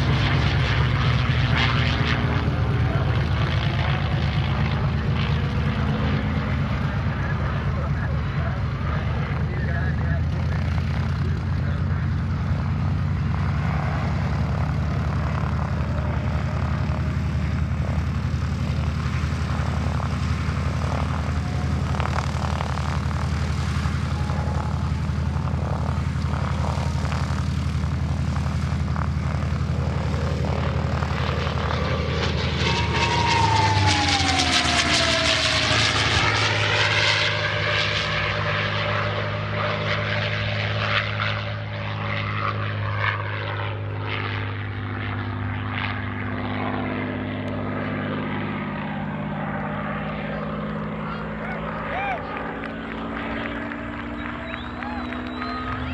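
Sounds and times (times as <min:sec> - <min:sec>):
propeller plane engine droning: 0:00.0 - 0:55.9.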